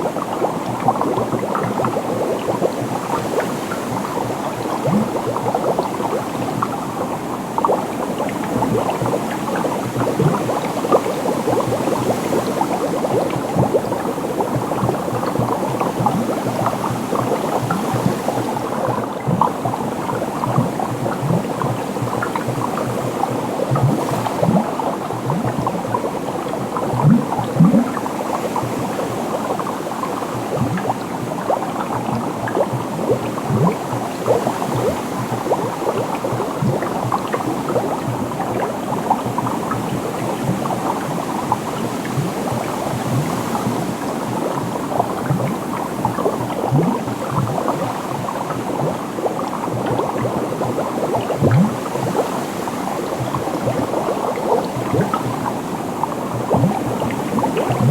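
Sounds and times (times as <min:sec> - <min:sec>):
continuous bubbling: 0:00.0 - 0:57.9
deep bubble pops: 0:00.0 - 0:57.9.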